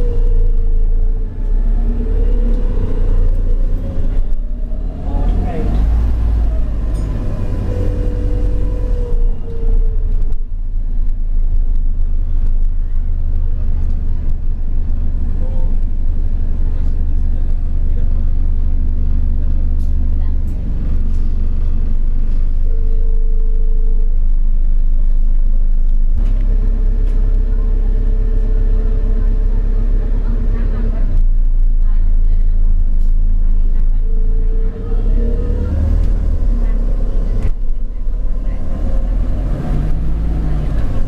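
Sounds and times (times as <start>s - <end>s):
bus engine rumbling: 0.0s - 41.0s.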